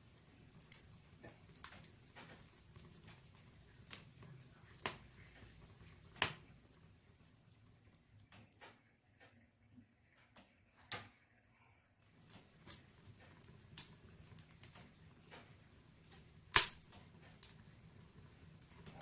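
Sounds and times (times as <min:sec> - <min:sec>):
firewood crackling and popping: 0:00.0 - 0:09.4, 0:12.0 - 0:19.0.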